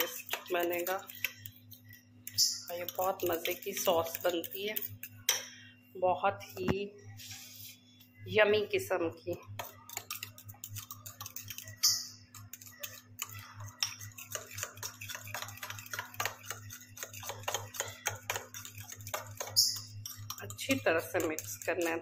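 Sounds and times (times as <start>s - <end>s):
spoon scraping glass bowl: 0.0s - 5.2s, 9.6s - 22.0s.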